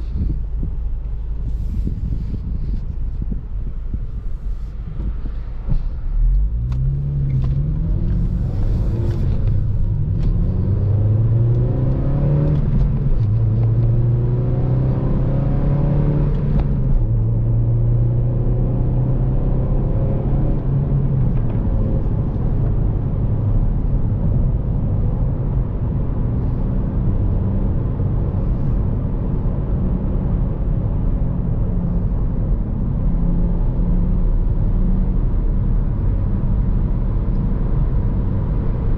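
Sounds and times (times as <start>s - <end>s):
car engine shifting gears: 0.0s - 38.9s
road and tyre rumble: 0.0s - 38.9s.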